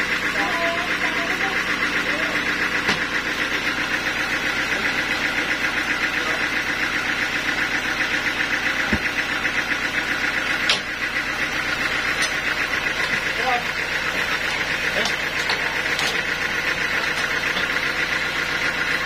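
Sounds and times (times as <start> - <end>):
band saw running: 0.0 - 19.0.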